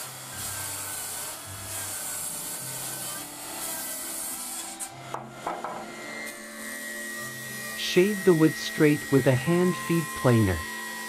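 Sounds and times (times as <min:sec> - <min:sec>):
table saw cutting wood: 0:00.0 - 0:11.0.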